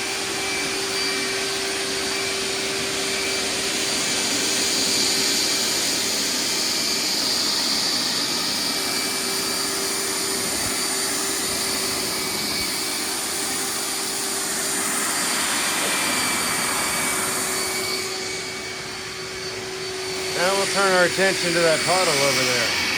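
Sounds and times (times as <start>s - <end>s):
wet vacuum sucking water: 0.0s - 22.9s.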